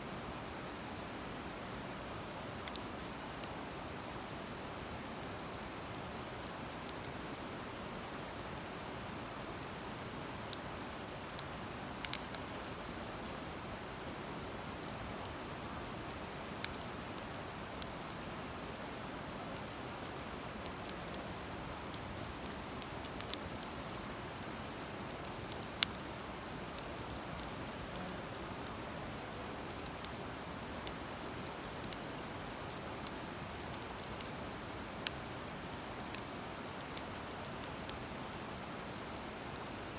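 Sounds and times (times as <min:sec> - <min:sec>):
campfire crackling and popping: 0:00.2 - 0:39.9.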